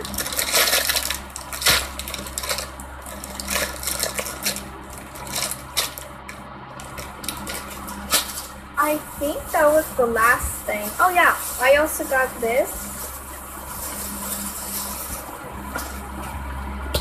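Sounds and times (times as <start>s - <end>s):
plastic bag crinkling: 0.0s - 16.2s
low background hum: 0.0s - 17.0s.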